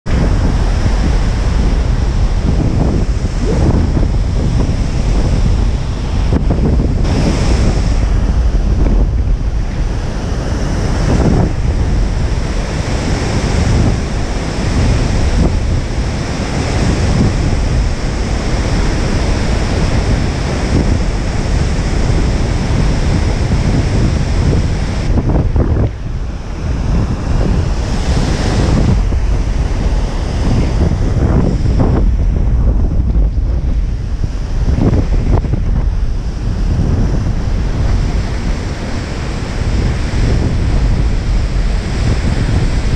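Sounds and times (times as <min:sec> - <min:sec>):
heavy surf breaking: 0:00.0 - 0:42.9
wind buffeting microphone: 0:00.0 - 0:42.9.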